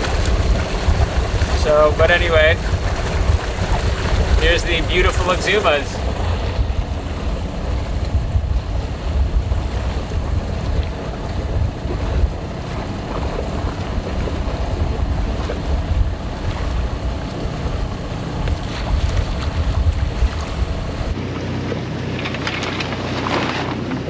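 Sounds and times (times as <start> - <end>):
wind buffeting microphone: 0.0 - 21.2
water rushing along hull: 0.0 - 24.0.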